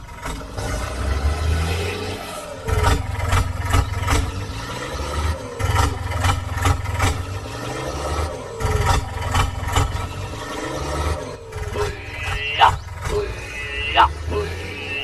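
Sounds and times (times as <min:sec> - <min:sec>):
engine humming: 0:02.2 - 0:15.0.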